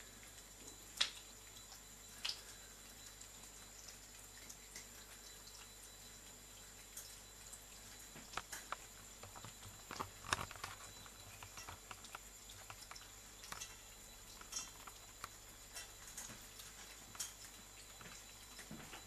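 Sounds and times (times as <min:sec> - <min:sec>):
tap water trickling: 0:00.0 - 0:19.0.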